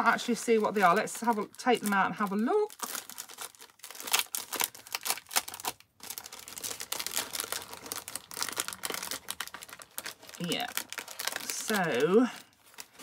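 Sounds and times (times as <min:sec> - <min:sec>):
plastic packet crinkling: 0:00.0 - 0:13.0.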